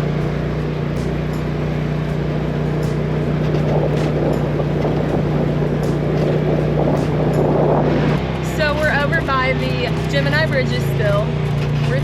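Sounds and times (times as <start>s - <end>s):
utility vehicle engine running: 0.0s - 12.0s
wind noise: 1.8s - 11.8s.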